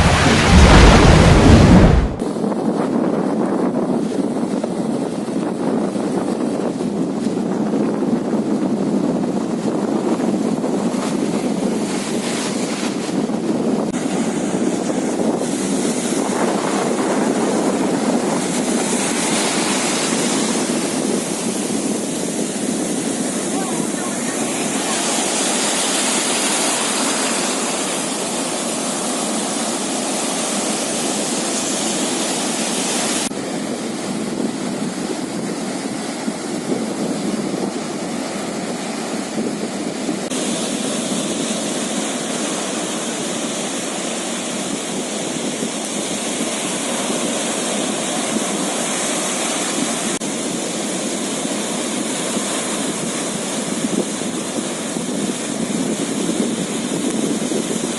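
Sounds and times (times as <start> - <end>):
sea water rushing: 0.0 - 57.9
wind: 0.0 - 57.9.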